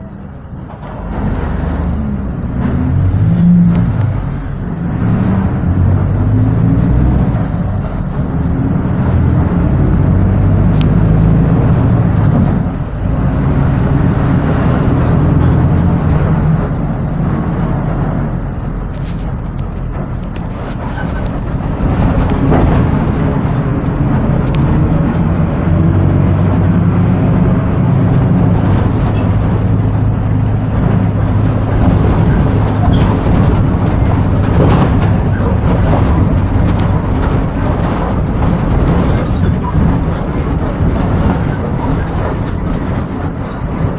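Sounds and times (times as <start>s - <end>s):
bus engine drone: 0.0s - 43.9s
road noise: 0.0s - 43.9s
knocks and rattles: 0.6s - 43.9s.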